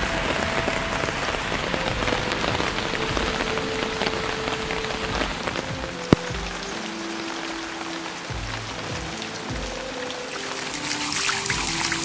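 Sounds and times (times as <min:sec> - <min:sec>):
heavy rain: 0:00.0 - 0:12.0
raindrops ticking on leaves: 0:00.0 - 0:12.0.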